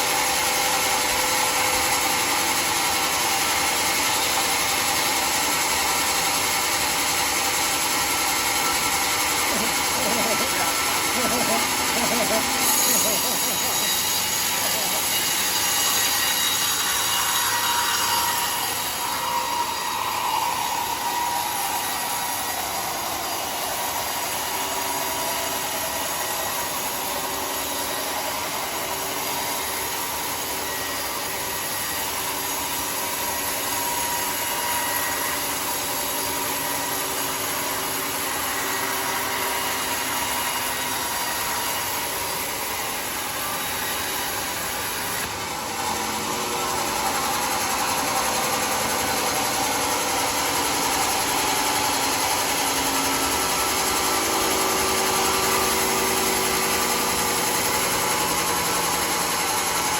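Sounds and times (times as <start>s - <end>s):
circular saw cutting log: 0.0s - 59.9s.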